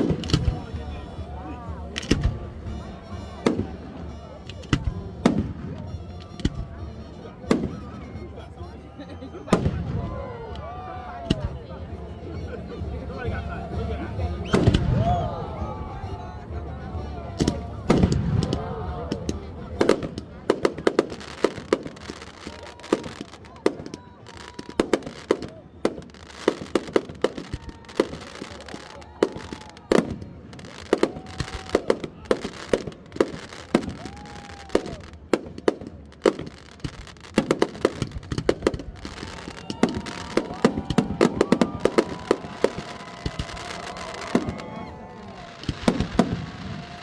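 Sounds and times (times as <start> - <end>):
fireworks bursting with sharp bangs: 0.0 - 1.0, 1.9 - 8.4, 9.5 - 10.4, 14.5 - 15.1, 17.4 - 47.0.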